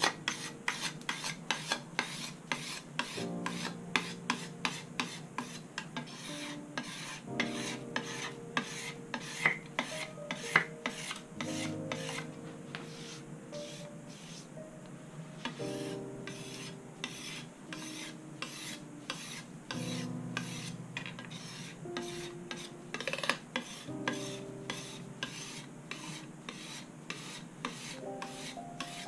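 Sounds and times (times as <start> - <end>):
steel blade scraping fretboard: 0.0 - 14.4, 15.4 - 29.0
soft background music: 0.0 - 29.0.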